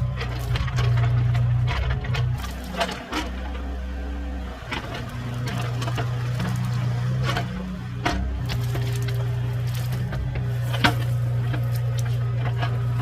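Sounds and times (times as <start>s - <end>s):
sharp knocks and cracks: 0.0s - 3.8s, 4.6s - 13.0s
engine running: 0.0s - 13.0s.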